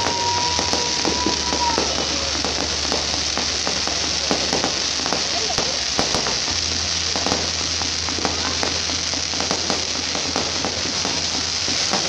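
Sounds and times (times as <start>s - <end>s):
fireworks fountain hissing and crackling: 0.0s - 12.0s.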